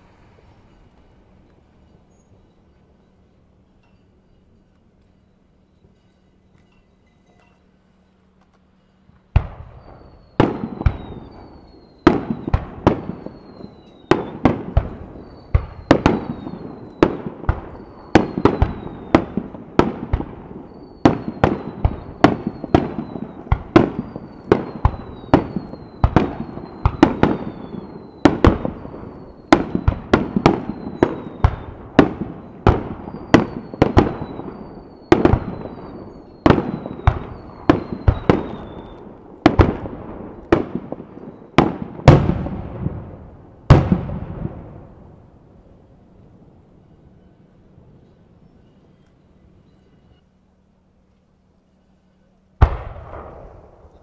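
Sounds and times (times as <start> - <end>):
falling firework whistles: 0.0 - 7.1, 9.4 - 45.3, 46.6 - 50.3.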